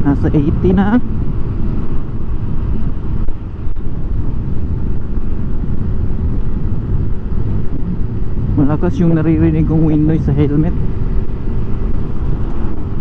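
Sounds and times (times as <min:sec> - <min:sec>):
motorcycle engine running: 0:00.0 - 0:13.0
wind rumble on microphone: 0:00.0 - 0:13.0.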